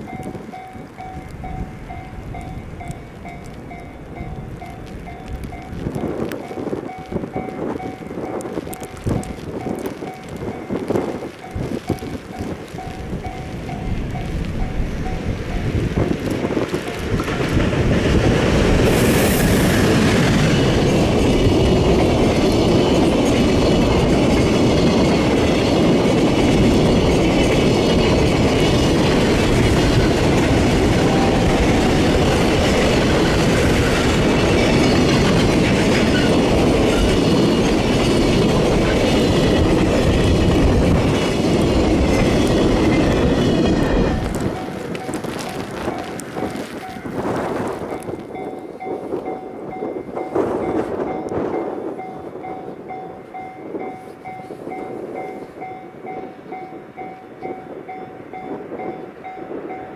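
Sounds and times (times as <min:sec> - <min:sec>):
freight train wheels clattering: 0:00.0 - 0:59.9.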